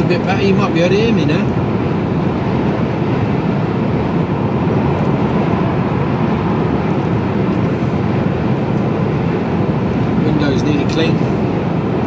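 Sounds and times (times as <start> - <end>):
lorry engine and road rumble: 0.0 - 12.0.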